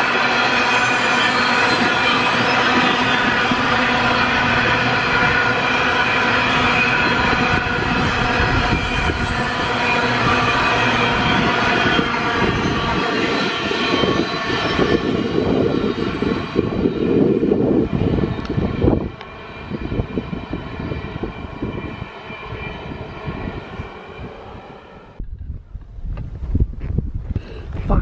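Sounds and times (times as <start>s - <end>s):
high steady whine: 0.0s - 28.0s
train wheels rumbling on rails: 0.0s - 28.0s
wind buffeting microphone: 0.9s - 28.0s.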